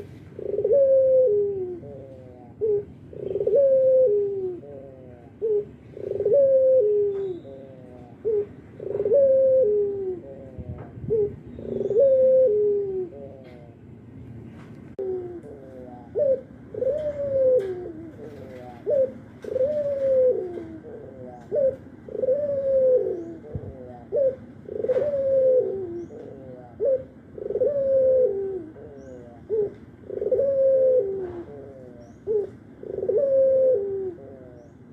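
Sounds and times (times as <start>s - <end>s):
dove cooing: 0.0s - 14.0s, 14.9s - 34.9s.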